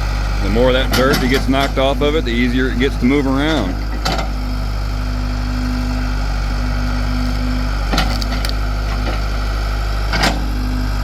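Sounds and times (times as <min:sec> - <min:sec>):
backhoe engine running: 0:00.0 - 0:11.0.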